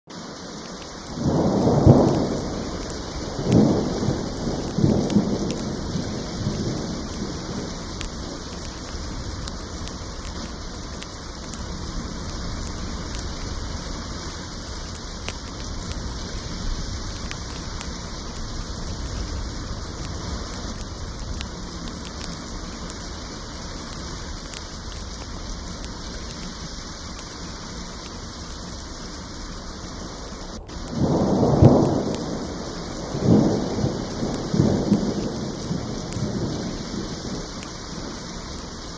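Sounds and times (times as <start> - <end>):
steady rain: 0.1 - 38.9
thunder rumbling: 1.1 - 26.4, 30.2 - 38.4.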